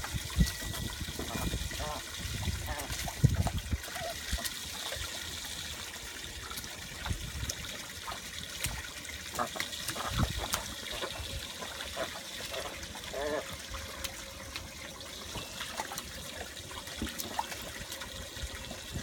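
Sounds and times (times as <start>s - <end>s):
ducks splashing and paddling: 0.0s - 19.0s
water trickling onto wooden deck: 0.0s - 19.0s.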